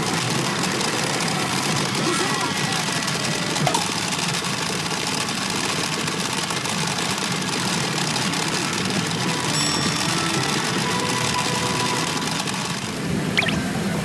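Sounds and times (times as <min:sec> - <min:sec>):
steel balls rattling in pachinko machine: 0:00.0 - 0:13.6.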